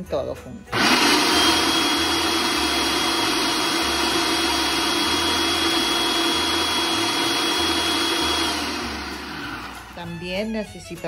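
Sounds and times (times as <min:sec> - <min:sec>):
food processor motor whining: 0:00.7 - 0:10.3.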